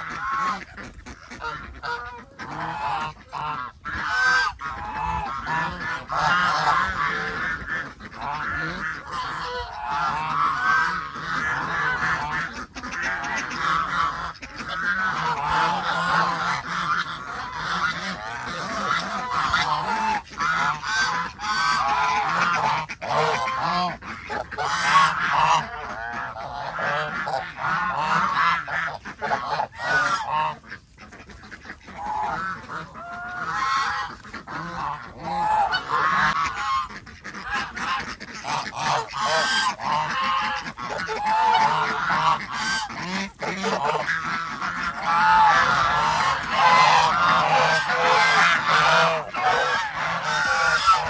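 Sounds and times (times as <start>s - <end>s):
geese honking: 0.0s - 51.0s.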